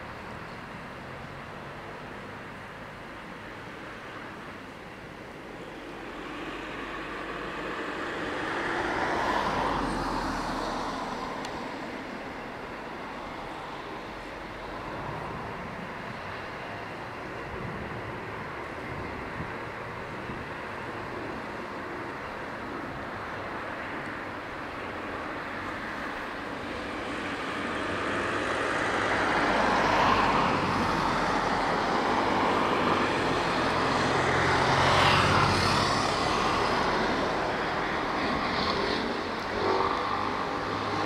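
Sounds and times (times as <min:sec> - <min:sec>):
diesel locomotive engine drone: 0:00.0 - 0:41.0.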